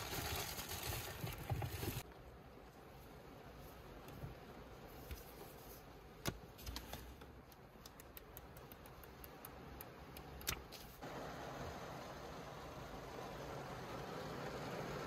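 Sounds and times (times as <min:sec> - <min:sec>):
steady low hiss: 0:01.2 - 0:15.0.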